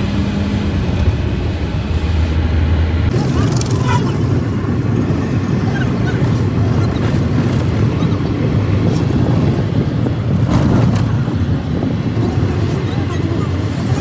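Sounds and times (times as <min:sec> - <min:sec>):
car driving on highway: 0:00.0 - 0:14.0.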